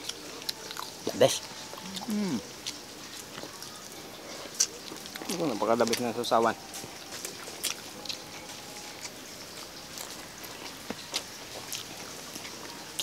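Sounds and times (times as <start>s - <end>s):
people chewing and lip smacking: 0.0s - 13.0s
steady background hiss: 0.0s - 13.0s.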